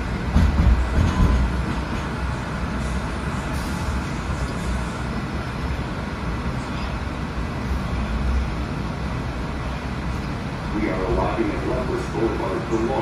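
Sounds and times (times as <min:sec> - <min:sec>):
train car interior rumble: 0:00.0 - 0:13.0.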